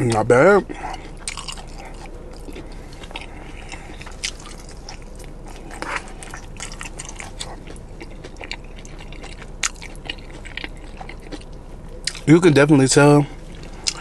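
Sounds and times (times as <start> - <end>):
person chewing chicken wings: 0.1 - 12.3, 13.4 - 14.0.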